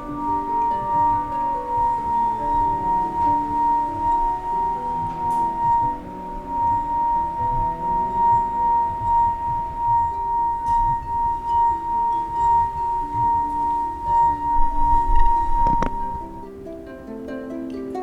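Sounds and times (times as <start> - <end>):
wine glass rim ringing: 0.0 - 16.6
soft background music: 0.0 - 18.0.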